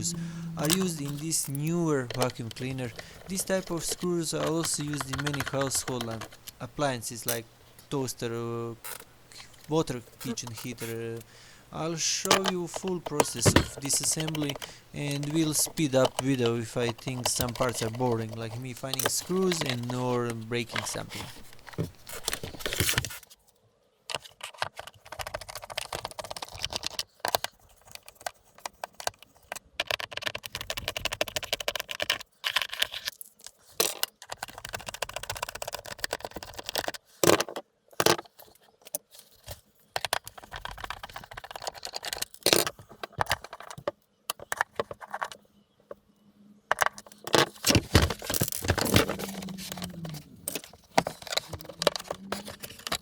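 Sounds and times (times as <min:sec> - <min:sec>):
plastic parts clattering and scraping: 0:00.6 - 0:08.0, 0:08.8 - 0:11.3, 0:12.1 - 0:23.4, 0:24.1 - 0:46.0, 0:46.7 - 0:53.0.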